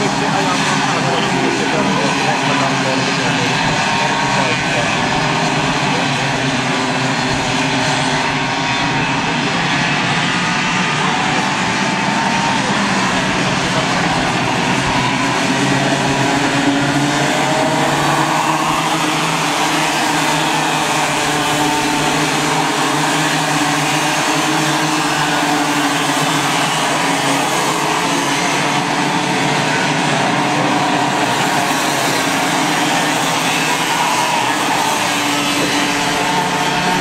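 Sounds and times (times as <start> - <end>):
racing kart engines: 0.0 - 37.0.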